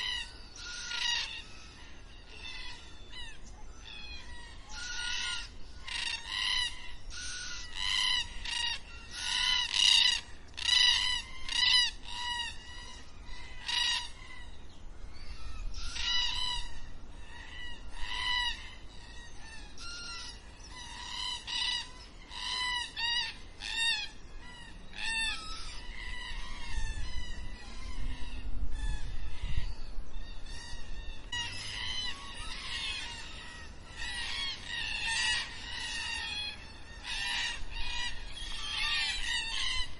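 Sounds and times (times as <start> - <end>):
cockatoos calling: 0.0 - 14.6, 15.2 - 39.9.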